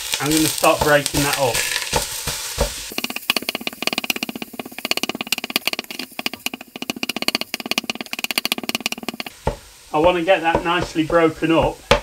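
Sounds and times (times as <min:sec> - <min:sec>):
masher striking a metal pan: 0:00.2 - 0:12.0.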